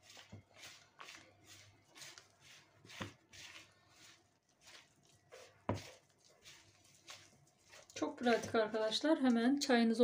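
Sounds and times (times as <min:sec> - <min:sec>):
hand mixing dough in a bowl: 0:00.0 - 0:10.0.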